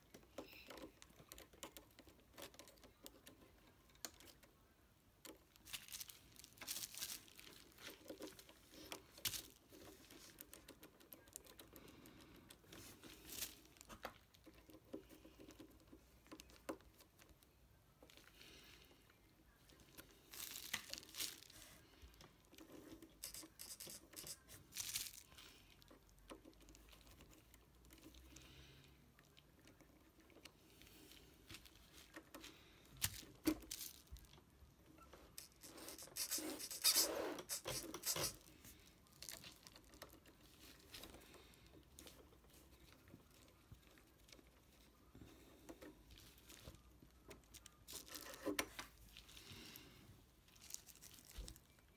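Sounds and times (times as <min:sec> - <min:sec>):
hands rustling over parts: 0:00.0 - 0:51.9.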